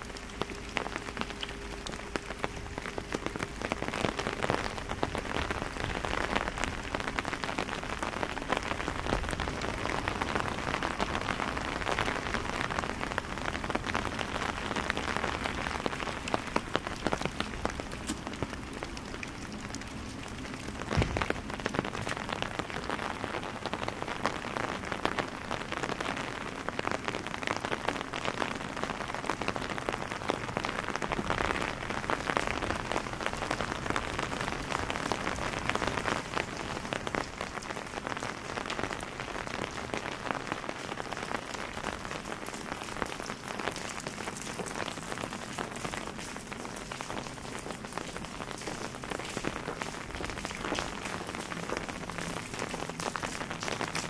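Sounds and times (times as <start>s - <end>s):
rain on cobblestones: 0.0s - 54.0s.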